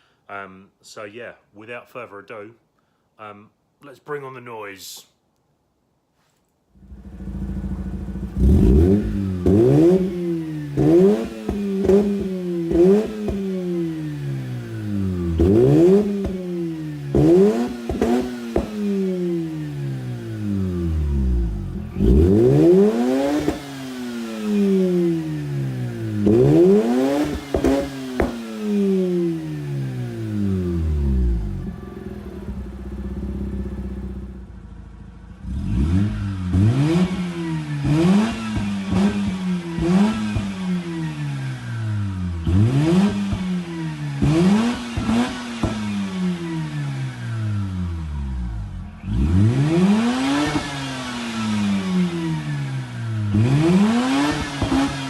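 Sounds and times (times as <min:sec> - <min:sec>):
rotary engine revving: 0:06.8 - 0:34.6, 0:35.3 - 0:55.0.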